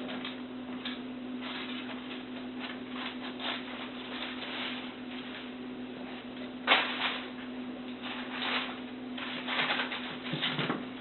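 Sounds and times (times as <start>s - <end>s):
puppies scuffling and pattering: 0.0s - 5.5s, 6.1s - 11.0s
steady low hum: 0.0s - 11.0s.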